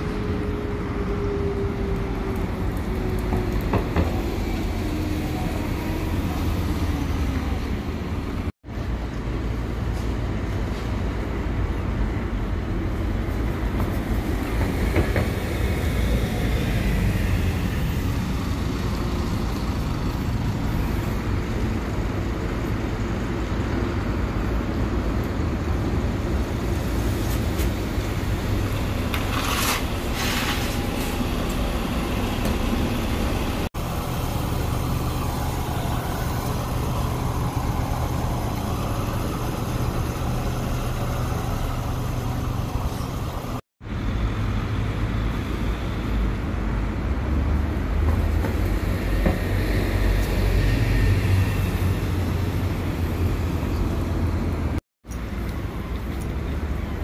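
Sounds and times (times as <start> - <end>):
bus engines rumbling: 0.0 - 57.0
street traffic noise: 0.0 - 57.0.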